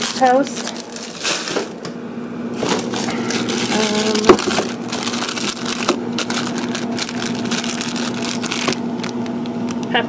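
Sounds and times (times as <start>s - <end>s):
plastic packages crinkling: 0.0s - 9.9s.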